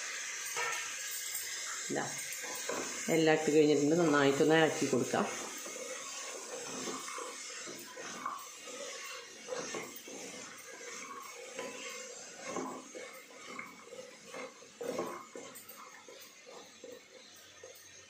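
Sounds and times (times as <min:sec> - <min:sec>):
wooden spatula scraping pot: 0:00.1 - 0:18.0.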